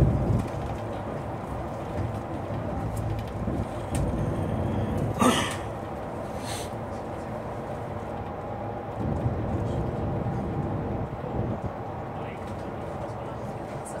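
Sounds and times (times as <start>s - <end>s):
bus engine and tyre rumble: 0.0s - 14.0s.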